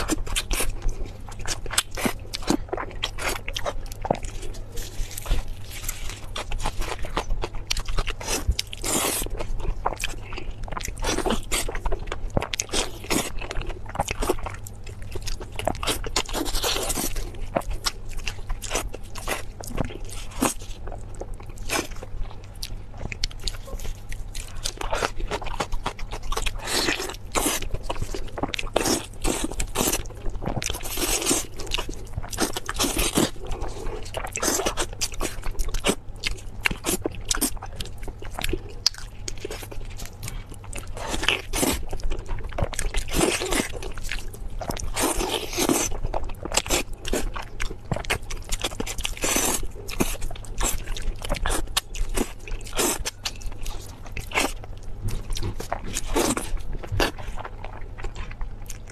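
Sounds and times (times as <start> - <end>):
wet chewing and smacking: 0.0 - 58.9.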